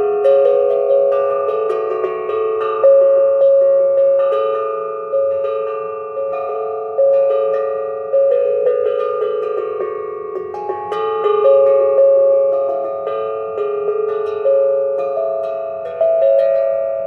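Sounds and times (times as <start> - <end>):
steel tongue drum melody: 0.0 - 17.0.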